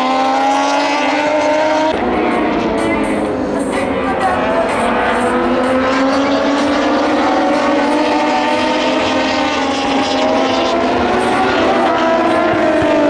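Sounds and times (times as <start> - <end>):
racing motorcycles revving past: 0.0 - 13.0.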